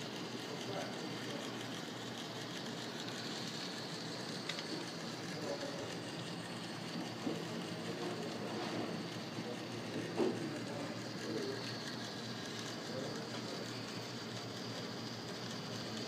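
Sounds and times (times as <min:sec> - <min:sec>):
model train motor whirring: 0:00.0 - 0:16.0.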